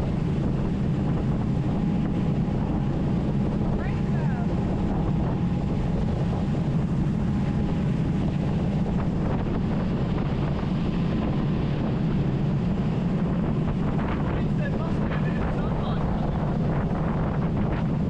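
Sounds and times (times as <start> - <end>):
boat engine droning: 0.0 - 18.0
wind buffeting microphone: 0.0 - 18.0.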